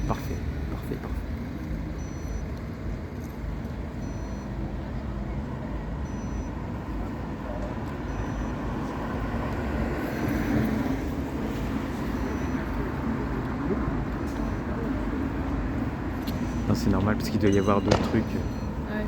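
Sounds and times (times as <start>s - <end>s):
outdoor crowd murmur: 0.0s - 19.0s.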